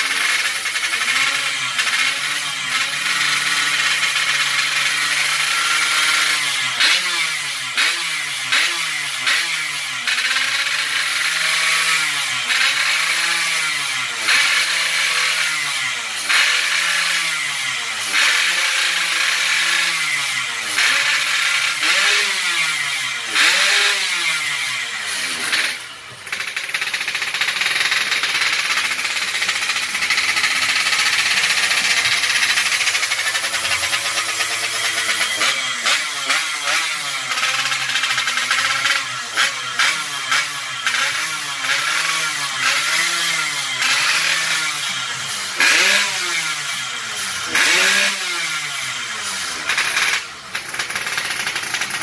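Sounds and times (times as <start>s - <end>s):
two-stroke engine revving: 0.0s - 52.0s.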